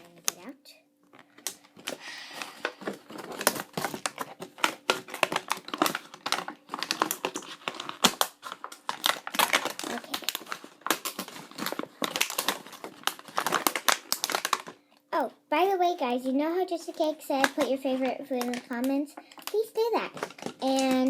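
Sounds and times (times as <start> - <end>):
plastic packaging crinkling: 0.0 - 14.9, 16.0 - 21.0.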